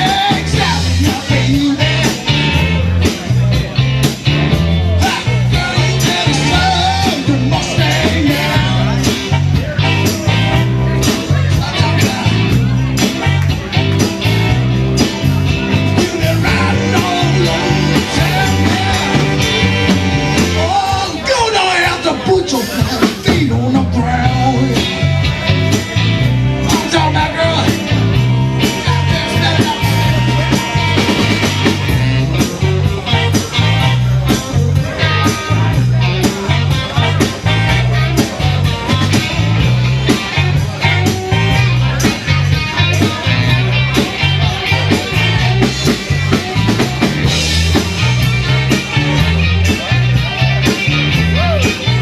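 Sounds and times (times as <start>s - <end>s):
drums: 0.0s - 52.0s
electric guitar: 0.0s - 52.0s
repeating bass line: 0.0s - 52.0s.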